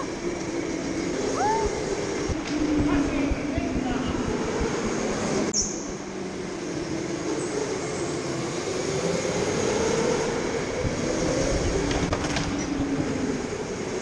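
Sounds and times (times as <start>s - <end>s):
go-kart motor and tyre noise: 0.0s - 14.0s.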